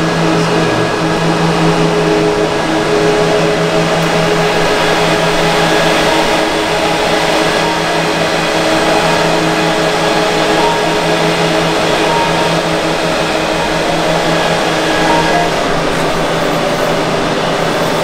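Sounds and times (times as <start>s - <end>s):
printer mechanical hum: 0.0s - 18.0s.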